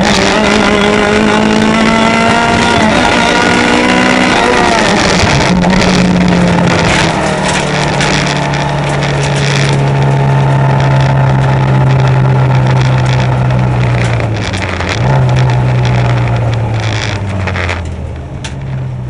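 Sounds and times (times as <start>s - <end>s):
car engine revving hard: 0.0s - 17.8s.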